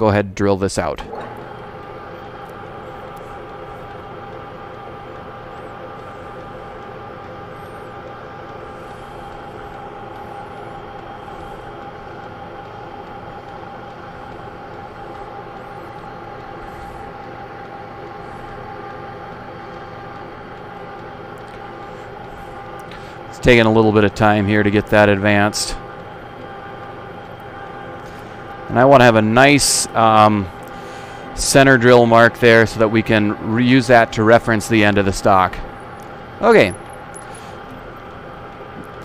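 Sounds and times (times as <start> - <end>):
lathe whining hum: 0.0 - 39.0.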